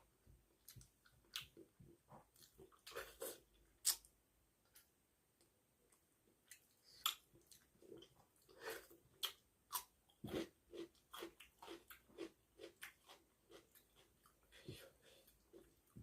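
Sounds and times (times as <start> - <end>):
person chewing food: 0.5 - 4.1, 5.9 - 16.0.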